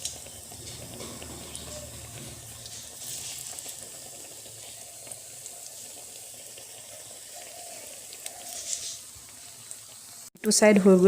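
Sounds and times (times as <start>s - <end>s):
small crackles in oil: 0.0s - 10.3s
deep-frying oil sizzling: 0.0s - 11.0s.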